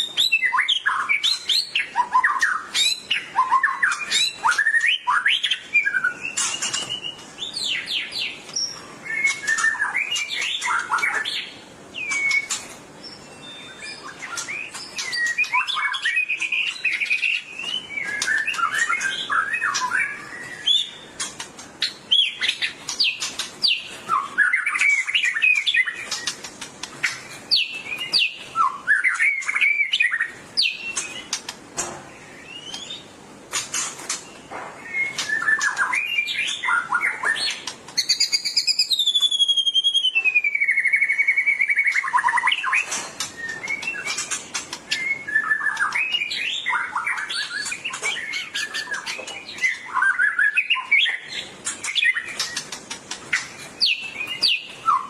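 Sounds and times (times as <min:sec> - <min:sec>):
bird singing whistled phrases: 0:00.0 - 0:21.2, 0:22.1 - 0:26.4, 0:27.1 - 0:31.3, 0:34.8 - 0:52.7, 0:53.3 - 0:55.0.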